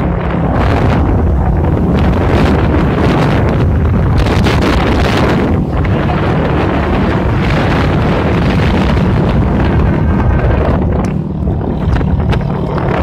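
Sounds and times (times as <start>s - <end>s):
vehicle engine drone: 0.0s - 13.0s
wind buffeting microphone: 0.0s - 13.0s.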